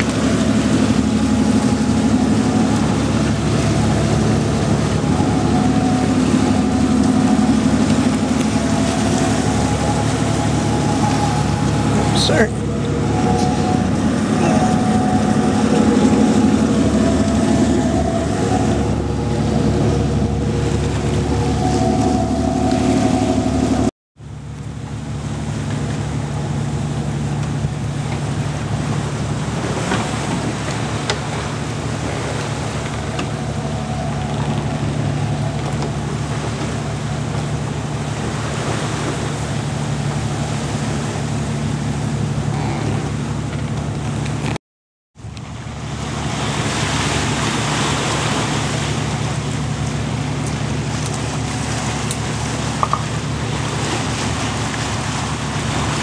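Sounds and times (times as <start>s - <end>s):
steady low drone: 0.0s - 44.6s, 45.2s - 56.0s
wind and water rushing: 0.0s - 44.6s, 45.2s - 56.0s.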